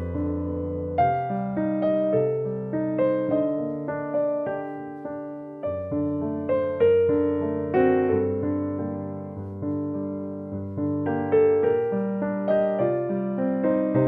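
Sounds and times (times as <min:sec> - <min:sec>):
soft slow piano melody: 0:00.0 - 0:14.0.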